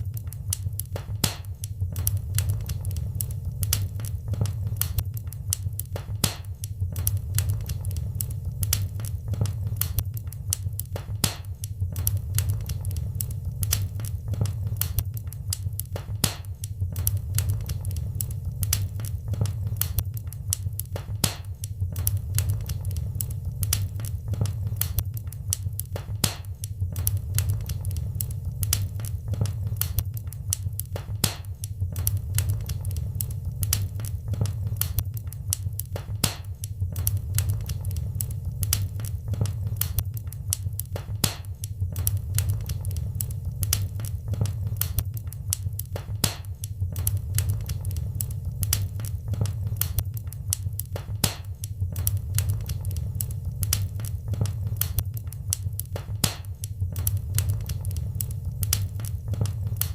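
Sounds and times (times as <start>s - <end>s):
fire crackling and popping: 0.0s - 59.9s
fire rumbling: 0.0s - 59.9s.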